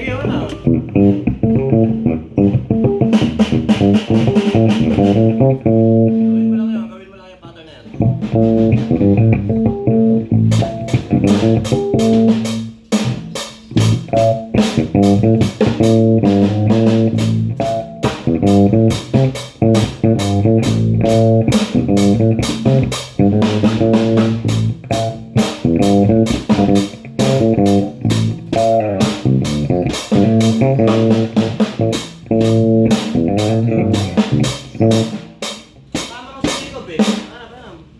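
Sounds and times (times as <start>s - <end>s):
bass guitar: 0.0s - 6.6s, 7.9s - 36.6s
guitar playing a repeating pattern: 0.0s - 6.9s, 7.9s - 36.7s
drum kit steady beat: 0.0s - 7.0s, 7.9s - 37.9s.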